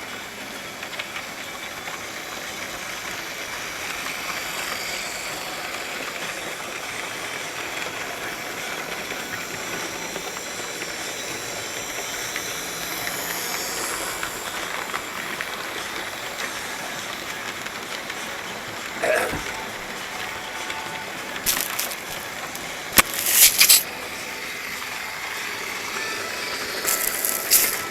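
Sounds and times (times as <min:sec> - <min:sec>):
model train motor whirring: 0:00.0 - 0:27.9.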